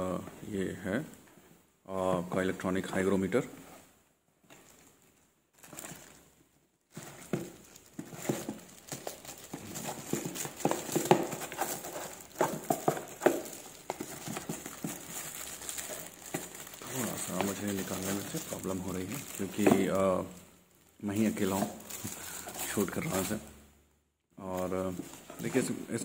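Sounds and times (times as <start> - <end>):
cardboard and plastic rustling: 3.7 - 23.5, 24.5 - 26.0.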